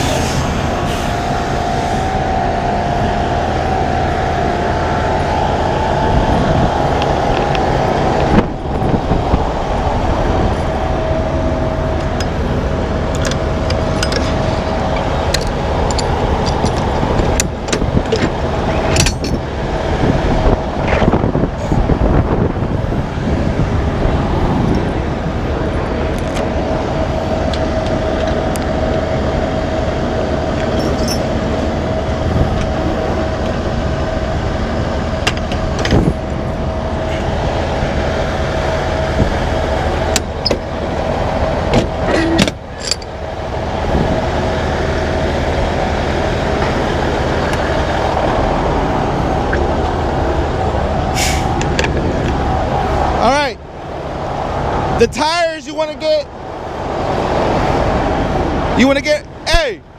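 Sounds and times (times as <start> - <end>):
diesel truck engine idling: 0.0 - 59.9
steady whine: 0.0 - 59.9.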